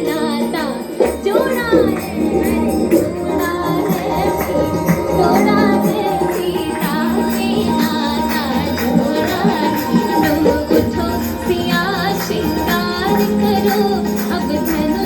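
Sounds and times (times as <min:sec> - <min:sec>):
folk song with singing: 0:00.0 - 0:15.0
steady percussion: 0:00.0 - 0:15.0.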